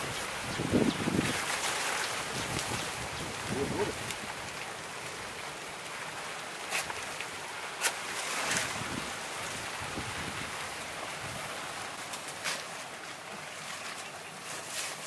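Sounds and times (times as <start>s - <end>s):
leaves rustling: 0.0s - 15.0s
wind: 0.0s - 15.0s.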